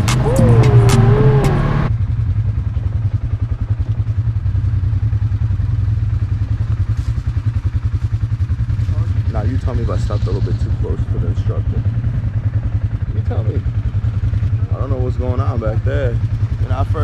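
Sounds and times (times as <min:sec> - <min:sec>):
atv engine idling: 0:01.8 - 0:17.0.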